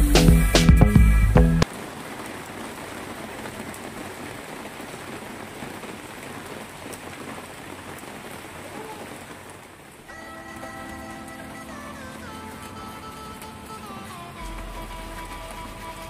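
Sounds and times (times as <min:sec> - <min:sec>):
rain on wet paving: 0:01.6 - 0:16.0.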